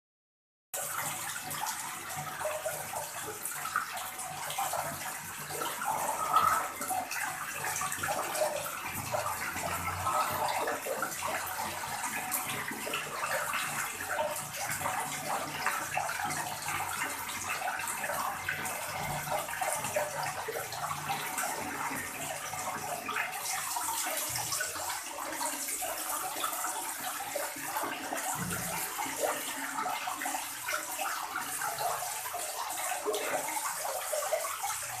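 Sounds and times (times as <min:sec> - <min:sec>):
water pouring into a full tub: 0:00.8 - 0:35.0.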